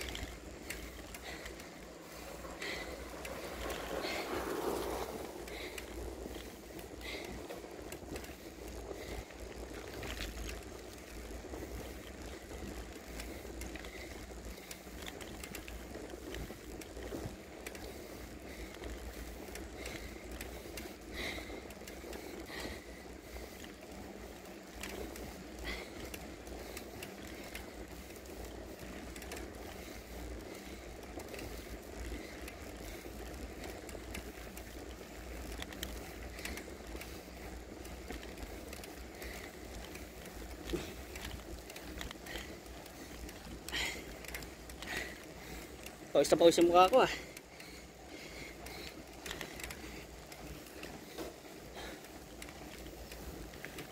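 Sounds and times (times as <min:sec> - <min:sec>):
bike ticks and rattles: 0:00.0 - 0:53.9
wind and tyre rush: 0:00.0 - 0:53.9.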